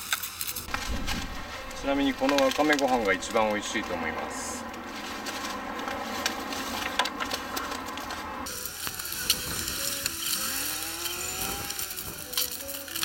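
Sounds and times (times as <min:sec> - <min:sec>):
foil pouches crinkling: 0:00.0 - 0:13.0.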